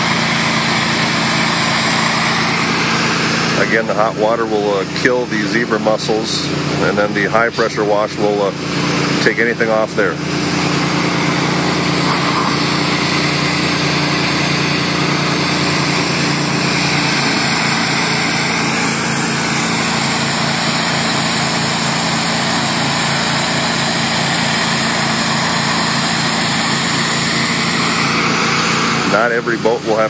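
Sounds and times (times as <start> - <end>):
high-pressure water spraying: 0.0 - 30.0
pressure washer engine running: 0.0 - 30.0.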